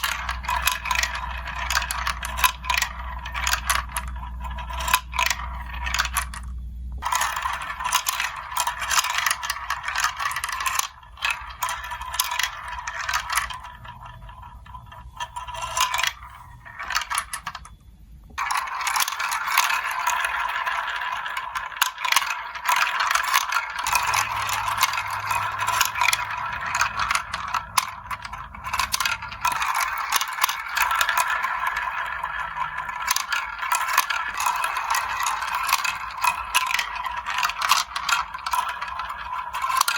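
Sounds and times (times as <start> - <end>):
marbles rolling and clattering: 0.0 - 39.9.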